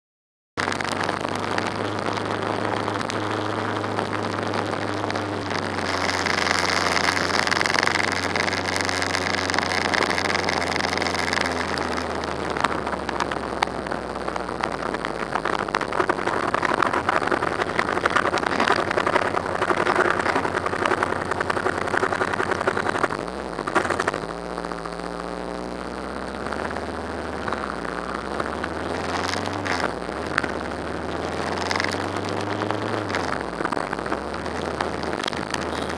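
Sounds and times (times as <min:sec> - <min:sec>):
motorcycle engine running: 0:00.6 - 0:35.9
scooter traffic hum: 0:00.6 - 0:35.9
steady high whine: 0:00.6 - 0:35.9
wind and road noise: 0:00.6 - 0:35.9.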